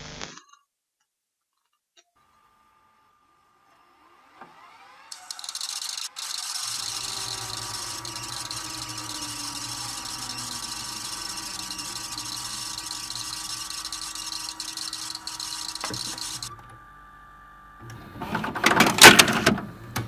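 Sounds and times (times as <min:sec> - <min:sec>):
tape motor hum and whine: 0:02.2 - 0:20.0.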